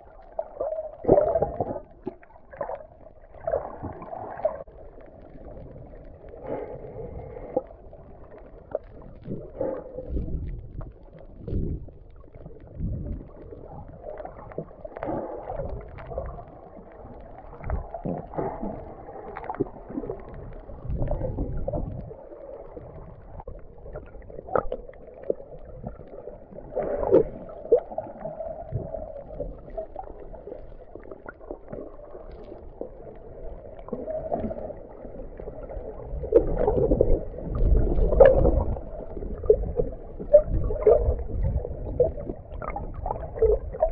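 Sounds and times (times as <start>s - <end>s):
underwater sloshing and gurgling: 0.0s - 43.9s.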